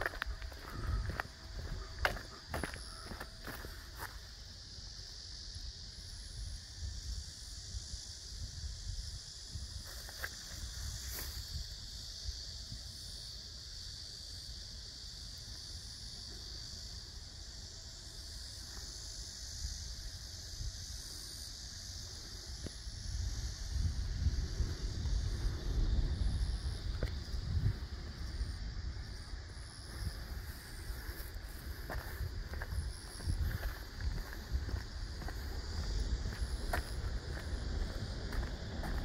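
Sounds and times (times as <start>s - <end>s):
insects chorus: 0.0s - 39.0s.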